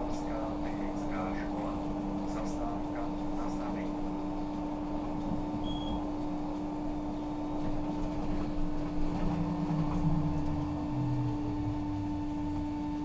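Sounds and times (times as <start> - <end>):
electrical hum: 0.0 - 13.0
road and running noise: 0.6 - 13.0.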